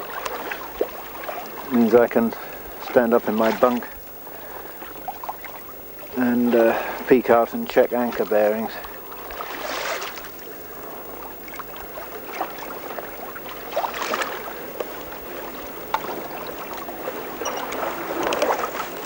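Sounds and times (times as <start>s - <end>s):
water splashing along boat hull: 0.0s - 19.0s.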